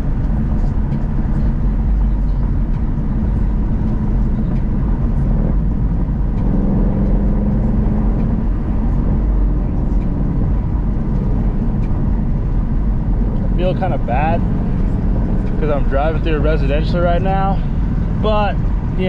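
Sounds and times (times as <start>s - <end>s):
car engine driving: 0.0s - 19.0s
road noise: 0.0s - 19.0s.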